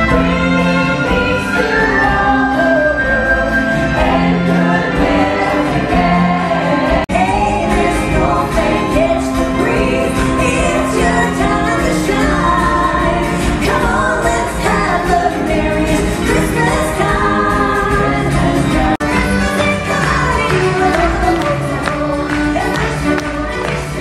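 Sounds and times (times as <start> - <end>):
acoustic guitars: 0.0 - 24.0
piano: 0.0 - 24.0
women singing in harmony: 0.0 - 24.0.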